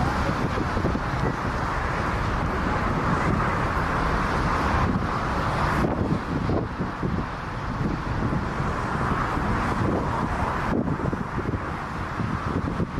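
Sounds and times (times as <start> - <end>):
jet aircraft engine: 0.0 - 12.9.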